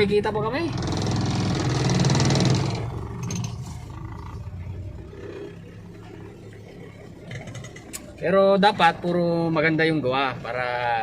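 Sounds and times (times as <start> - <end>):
motor vehicle engine rumble: 0.0 - 11.0.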